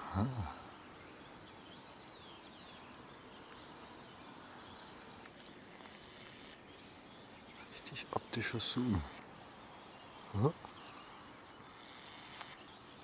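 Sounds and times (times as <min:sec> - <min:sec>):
open air background hiss: 0:00.0 - 0:13.0.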